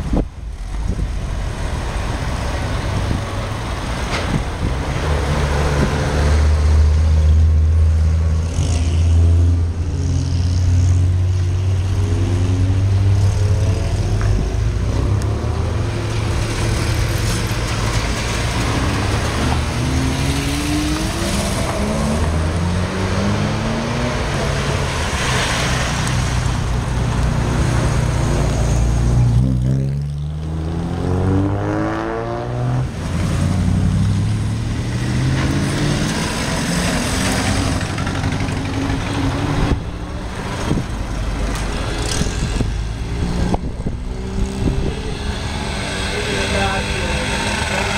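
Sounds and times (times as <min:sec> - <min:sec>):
engine humming: 0:00.0 - 0:47.9
engines revving: 0:00.2 - 0:47.9.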